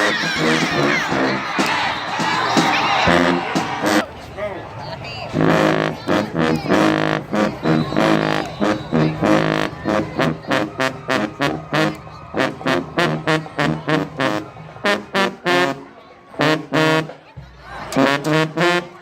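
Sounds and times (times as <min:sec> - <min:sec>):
brass band short detached notes: 0:00.0 - 0:04.4, 0:05.3 - 0:17.2, 0:17.9 - 0:19.0.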